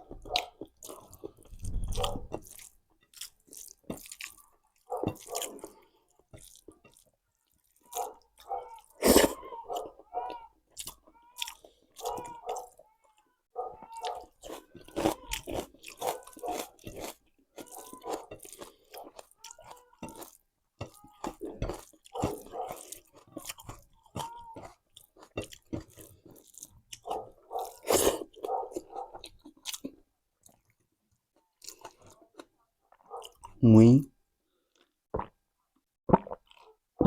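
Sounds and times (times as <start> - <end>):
person chewing food: 0.0 - 33.6, 34.4 - 37.0.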